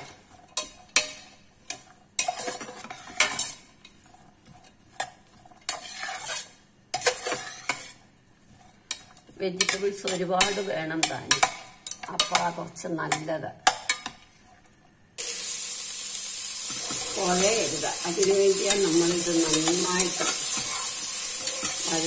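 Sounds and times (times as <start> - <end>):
spatula scraping vegetables in pan: 0.0 - 12.5, 13.7 - 15.0, 16.5 - 22.0
faint sizzle: 0.0 - 22.0.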